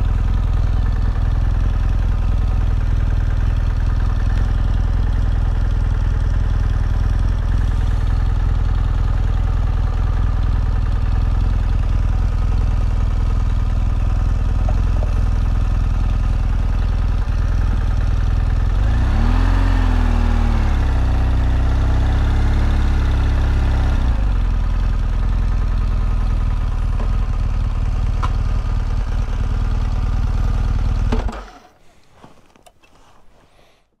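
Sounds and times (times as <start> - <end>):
motorcycle engine running: 0.0 - 31.4.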